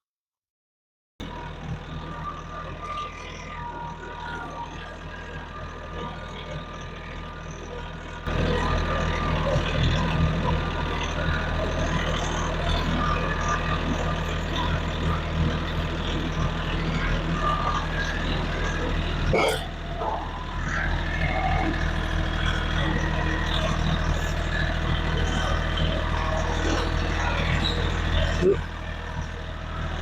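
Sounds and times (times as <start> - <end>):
tractor diesel engine running: 1.2 - 30.0.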